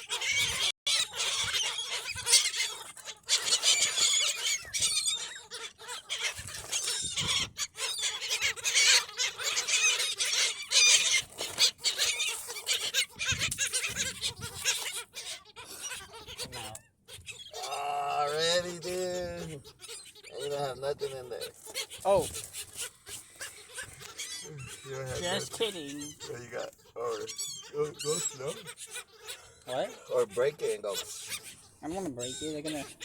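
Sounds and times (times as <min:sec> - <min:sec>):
seagulls squealing and calling: 0:00.0 - 0:33.0.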